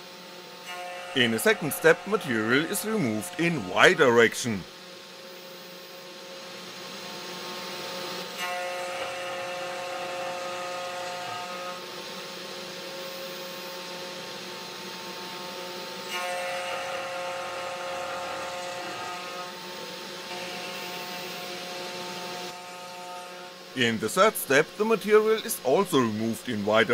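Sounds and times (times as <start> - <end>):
router motor whine: 0.0 - 26.9.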